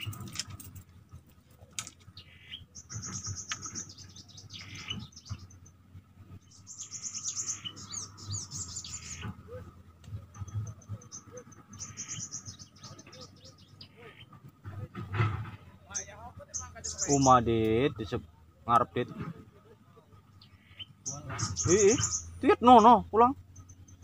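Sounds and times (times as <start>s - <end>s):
songbird chirping trills: 0.0s - 24.0s.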